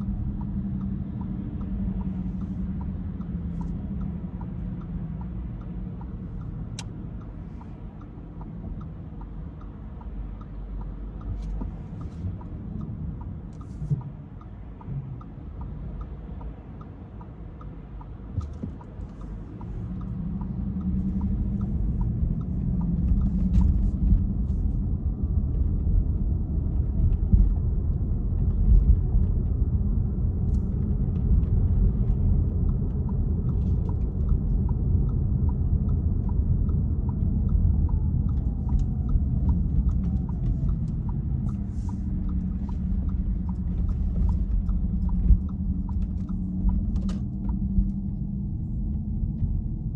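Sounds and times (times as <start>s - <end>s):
faint regular ticking: 0.0s - 26.1s, 30.4s - 49.9s
car engine and tyres rumbling: 0.0s - 49.9s.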